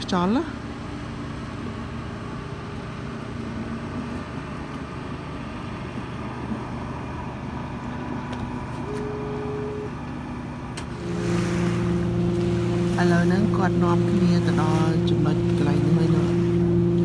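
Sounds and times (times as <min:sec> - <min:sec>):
faint engine-like hum: 0:00.0 - 0:17.0
outdoor background rumble: 0:00.0 - 0:17.0.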